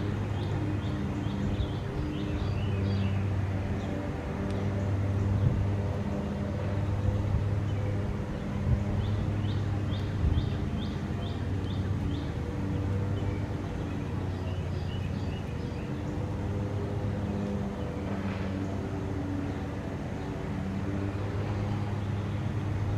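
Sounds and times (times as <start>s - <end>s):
low machine hum: 0.0s - 22.9s.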